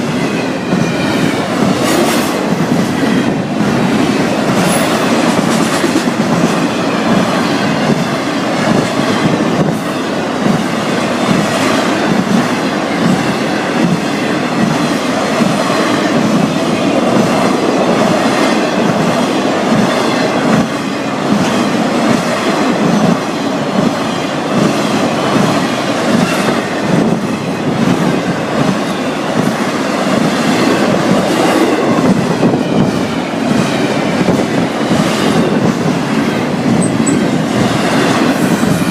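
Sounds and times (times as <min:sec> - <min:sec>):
rhythmic clickety-clack: 0:00.0 - 0:38.9
train wheels rumbling on rail: 0:00.0 - 0:38.9.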